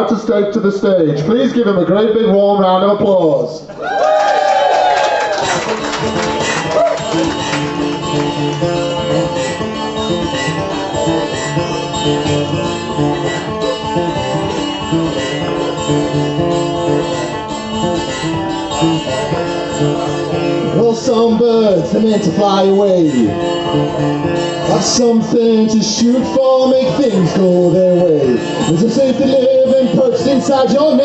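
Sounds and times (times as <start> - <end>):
acoustic guitar strumming chords: 5.4 - 31.0.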